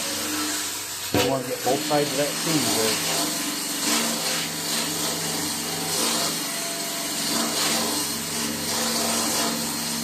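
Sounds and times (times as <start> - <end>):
power tool motor whine: 0.0 - 10.0
wire wheel scouring metal: 0.0 - 10.0.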